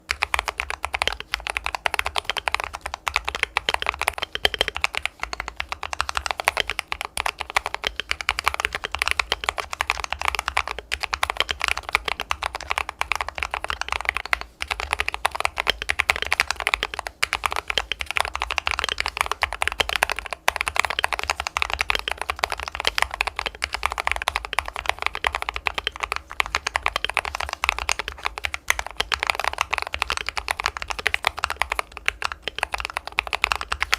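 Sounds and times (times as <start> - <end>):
fast typing on mechanical keyboard: 0.0 - 33.9.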